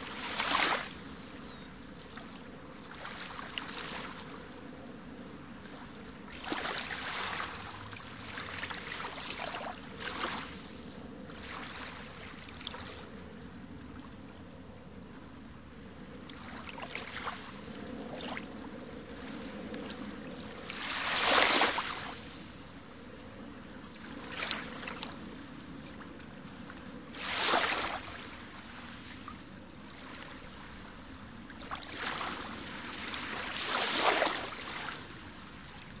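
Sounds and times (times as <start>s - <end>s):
sea waves washing in: 0.0s - 36.0s.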